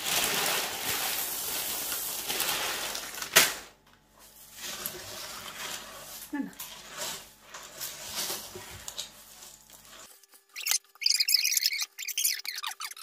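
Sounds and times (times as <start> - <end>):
crackling and squeaking mixture: 0.0 - 3.4, 4.0 - 13.0.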